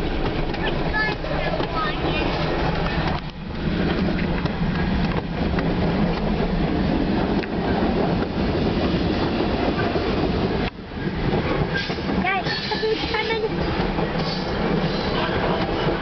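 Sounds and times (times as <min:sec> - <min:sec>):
rail clacks: 0:00.0 - 0:16.0
train wheels rumbling on rail: 0:00.0 - 0:16.0.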